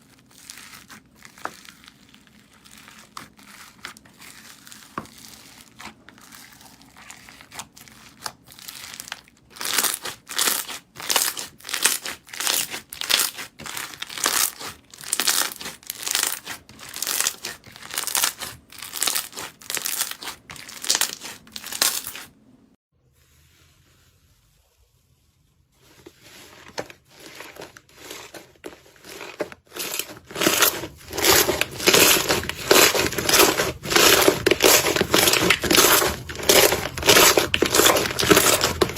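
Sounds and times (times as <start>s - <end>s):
slime squishing and crackling: 0.0s - 22.3s, 27.0s - 38.9s.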